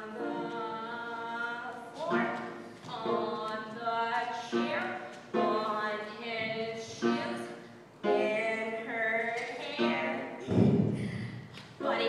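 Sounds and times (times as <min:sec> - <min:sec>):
girl singing: 0:00.0 - 0:11.1, 0:11.8 - 0:12.0.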